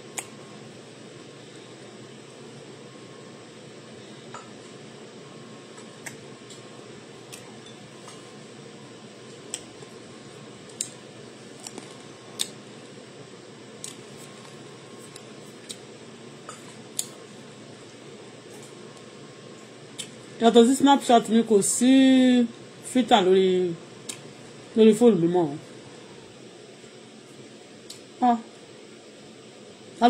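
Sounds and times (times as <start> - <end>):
low room hum and hiss: 0.0 - 30.0.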